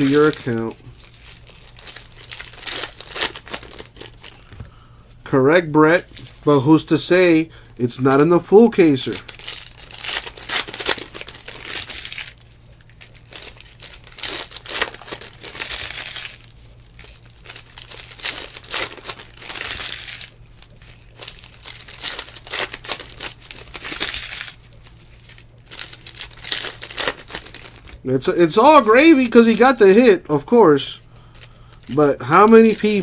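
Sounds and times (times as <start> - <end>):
plastic wrappers crinkling and tearing: 0.0 - 4.6, 5.9 - 6.5, 8.5 - 33.0.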